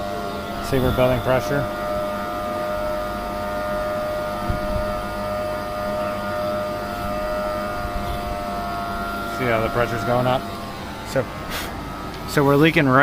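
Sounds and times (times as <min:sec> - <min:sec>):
air pump humming and whining: 0:00.0 - 0:13.0.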